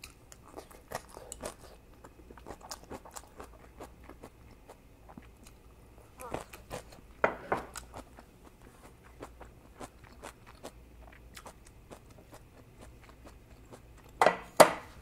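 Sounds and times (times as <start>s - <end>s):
wet chewing: 0.0s - 14.2s.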